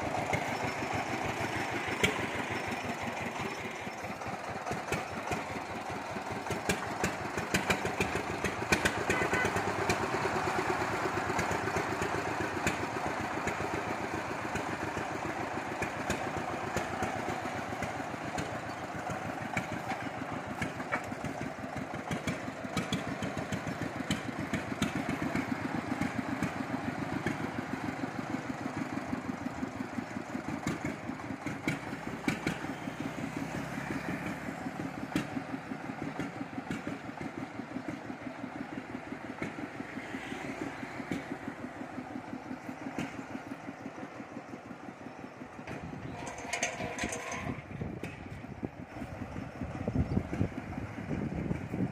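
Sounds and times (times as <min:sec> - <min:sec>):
diesel engine chugging: 0:00.0 - 0:51.9.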